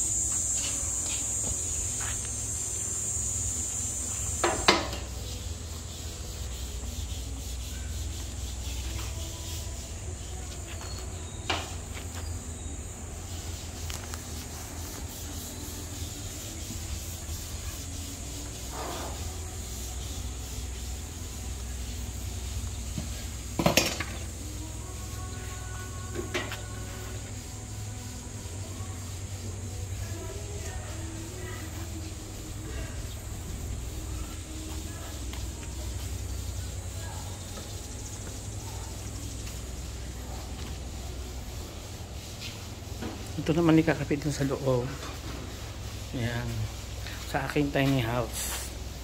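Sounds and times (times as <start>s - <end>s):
steady high hiss: 0.0s - 49.0s.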